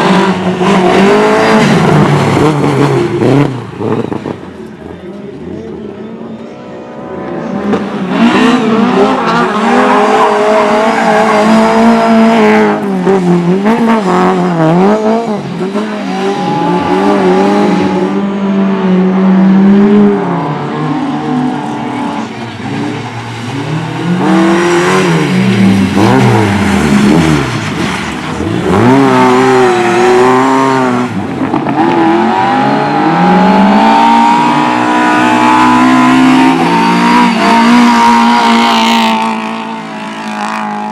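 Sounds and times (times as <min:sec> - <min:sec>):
motorcycle engines racing: 0:00.0 - 0:40.9.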